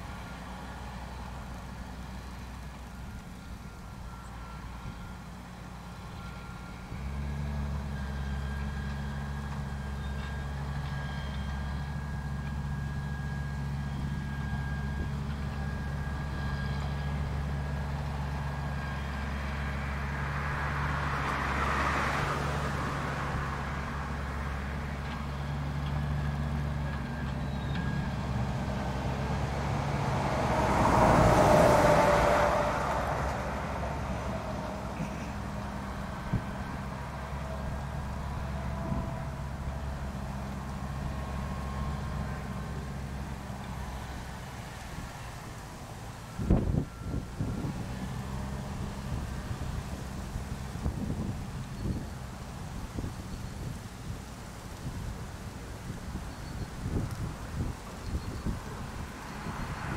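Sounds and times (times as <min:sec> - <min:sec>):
harvester engine drone: 0:00.0 - 0:59.9.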